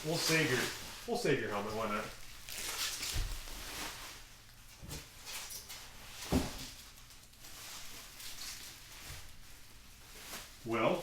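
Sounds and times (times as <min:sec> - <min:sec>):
bubble wrap rustling: 0:00.0 - 0:11.0.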